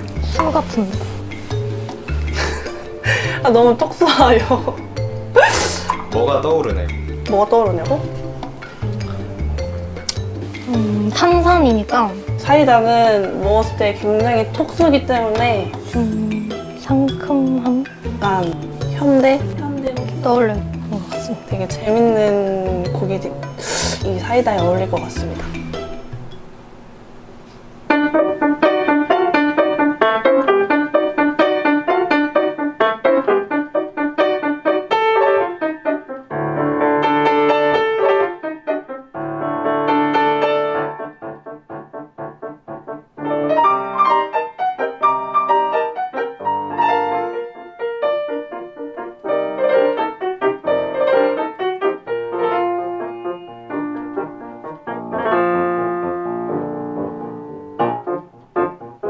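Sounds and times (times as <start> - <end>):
grand piano playing: 0.0 - 27.0, 27.8 - 59.0.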